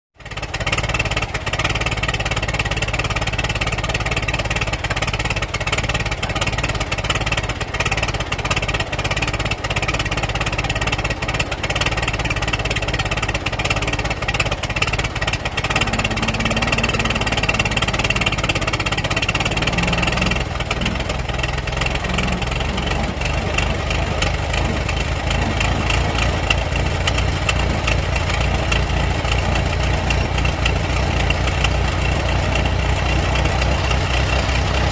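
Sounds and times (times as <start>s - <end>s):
old car engine idling: 0.2s - 34.9s.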